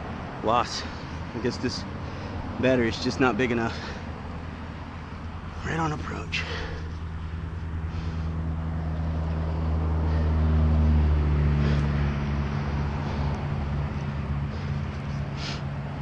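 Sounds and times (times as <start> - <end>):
car engine passing by: 0.0 - 16.0.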